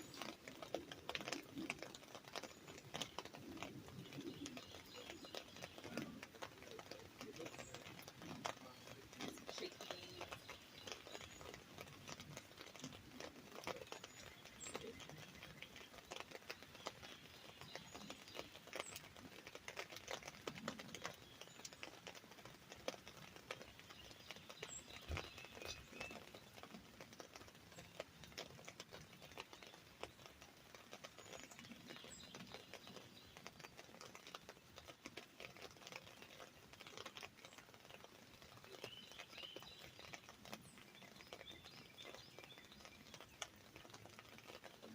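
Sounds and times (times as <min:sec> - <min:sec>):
rain pattering on an umbrella: 0:00.0 - 0:44.9.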